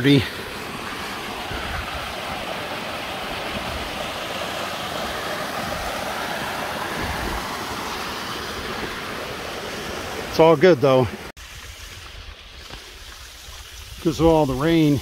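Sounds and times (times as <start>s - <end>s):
waterfall splashing over rocks: 0.0s - 15.0s.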